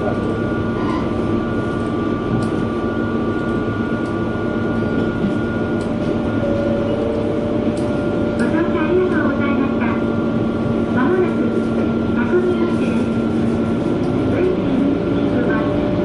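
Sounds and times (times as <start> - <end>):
train engine and wheels droning: 0.0 - 16.0.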